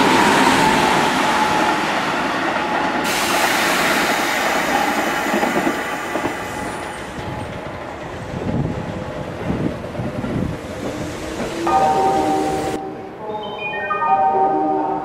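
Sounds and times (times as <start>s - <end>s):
train approaching: 0.0s - 15.0s
train passing with rail noise: 0.0s - 15.0s.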